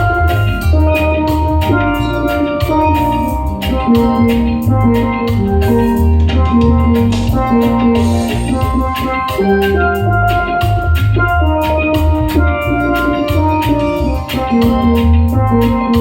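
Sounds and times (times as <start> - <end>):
heavy pulsing bass line: 0.0 - 16.0
held melodic notes: 0.0 - 16.0
reggae music: 0.0 - 16.0
steady drum beat: 0.0 - 16.0.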